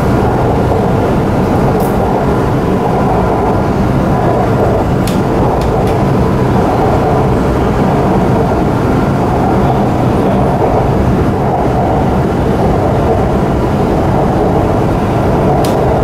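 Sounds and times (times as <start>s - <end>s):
faint steady hum: 0.0s - 16.0s
train wheels rumbling: 0.0s - 16.0s.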